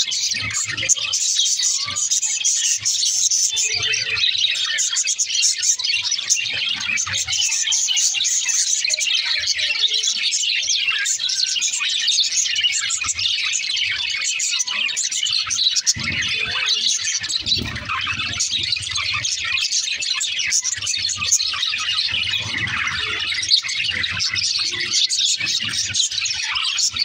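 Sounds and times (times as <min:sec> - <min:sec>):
budgerigars chattering and warbling: 0:00.0 - 0:27.0.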